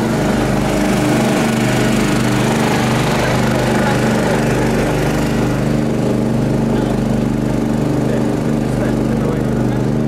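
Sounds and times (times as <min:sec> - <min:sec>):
portable generator engine running: 0:00.0 - 0:10.0.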